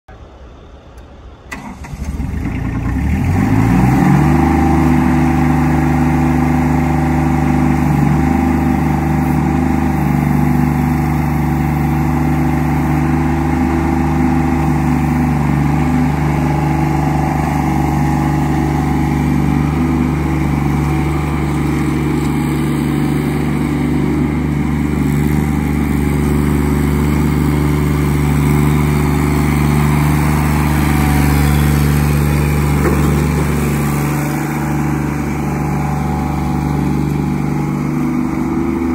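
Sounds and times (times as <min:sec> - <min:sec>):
diesel engine starting: 0:00.0 - 0:38.9.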